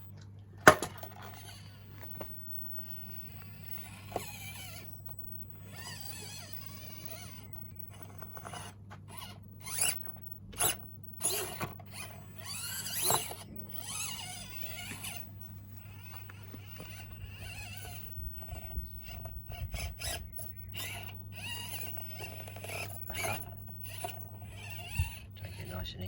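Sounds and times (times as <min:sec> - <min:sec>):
small electric motor whining: 0:00.0 - 0:26.0.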